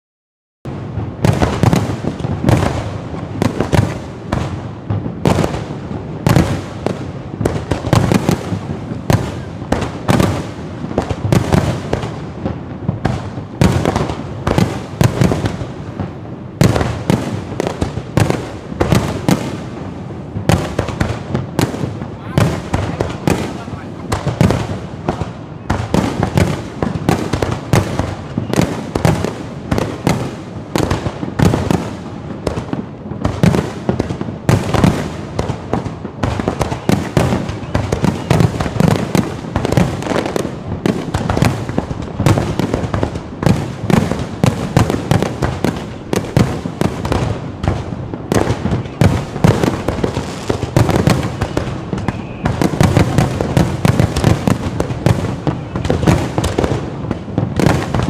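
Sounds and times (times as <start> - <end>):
fireworks bangs: 0.7 - 58.0.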